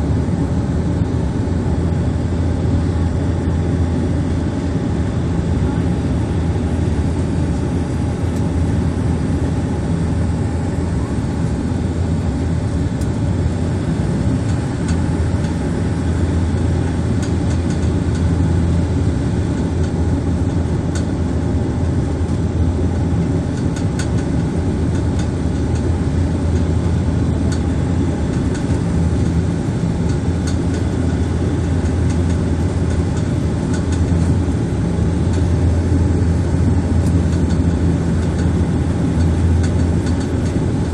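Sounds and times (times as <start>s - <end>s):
turboprop engine drone in cabin: 0.0s - 40.9s.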